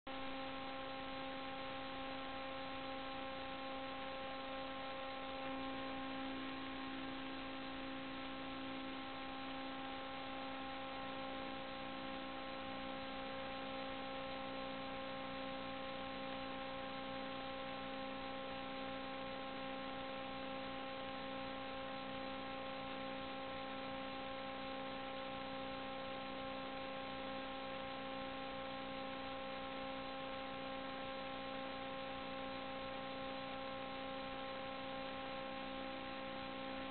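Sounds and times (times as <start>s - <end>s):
constant hiss: 0.1s - 36.9s
electrical hum with high tones: 0.1s - 36.9s.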